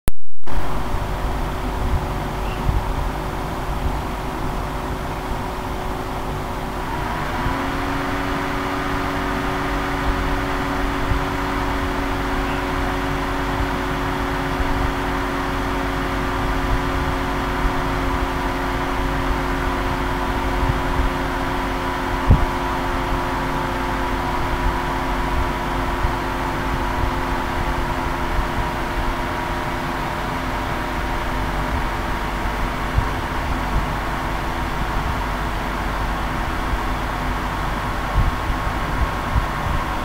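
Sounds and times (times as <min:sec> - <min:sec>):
computer fan whirring: 0:00.4 - 0:40.0.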